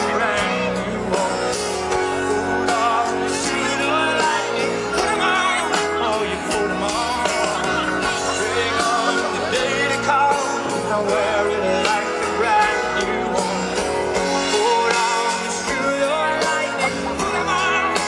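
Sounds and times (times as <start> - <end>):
lead vocal singing: 0.0 - 18.0
live rock band: 0.0 - 18.0.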